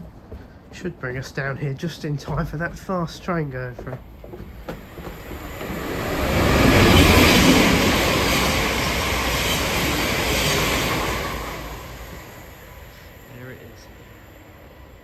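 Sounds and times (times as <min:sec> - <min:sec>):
fast train passing: 0:00.0 - 0:15.0.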